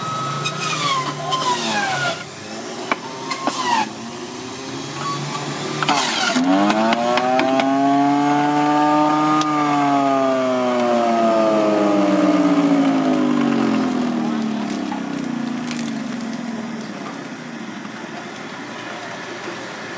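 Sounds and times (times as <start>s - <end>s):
juicer motor starting clatter: 0.0s - 4.1s, 5.0s - 7.8s, 8.4s - 18.5s
electric juicer motor whine: 0.0s - 19.9s.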